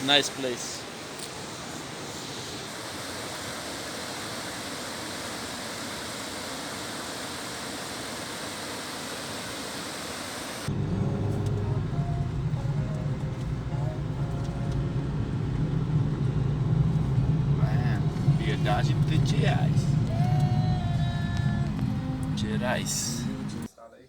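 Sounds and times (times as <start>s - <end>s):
waterfall roaring: 0.0s - 23.7s
low engine hum: 2.7s - 23.7s.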